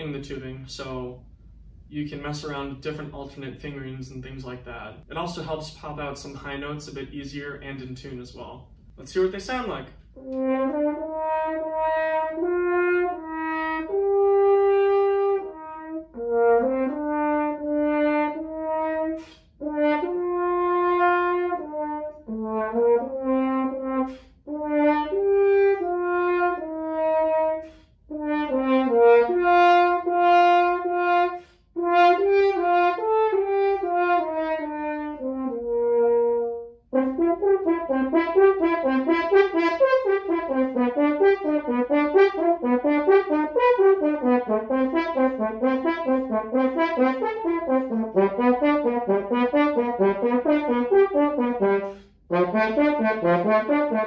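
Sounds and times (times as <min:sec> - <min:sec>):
horn playing a melody: 0:09.0 - 0:54.0.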